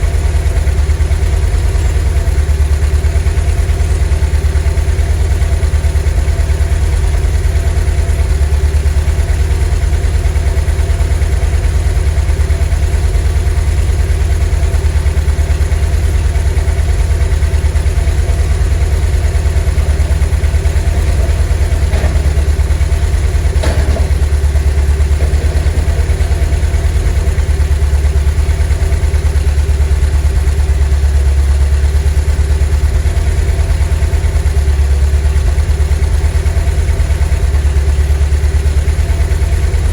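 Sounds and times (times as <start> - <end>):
van engine idling: 0.0 - 39.9.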